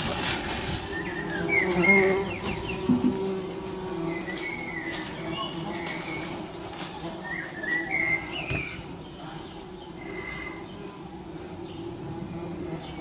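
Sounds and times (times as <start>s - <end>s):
bumblebees buzzing: 0.0s - 13.0s
songbirds chirping and whistling: 0.0s - 13.0s.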